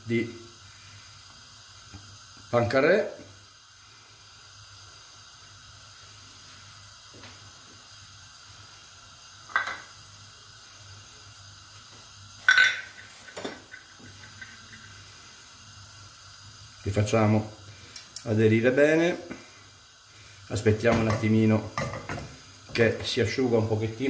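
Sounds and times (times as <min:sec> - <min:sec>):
egg sizzling in a frying pan: 0:00.0 - 0:24.0.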